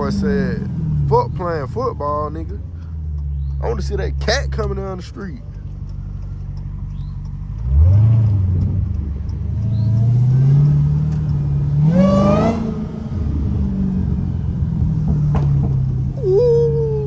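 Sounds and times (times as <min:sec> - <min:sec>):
car engine accelerating: 0:00.0 - 0:17.0
high supercharger whine: 0:00.0 - 0:17.0.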